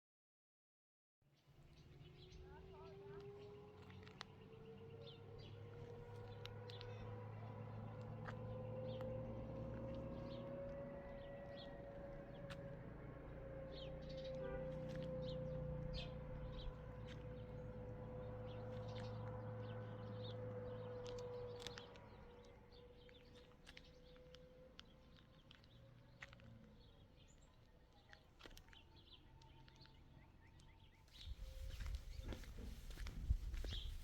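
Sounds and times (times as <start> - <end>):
small birds chirping: 1.3 - 34.0.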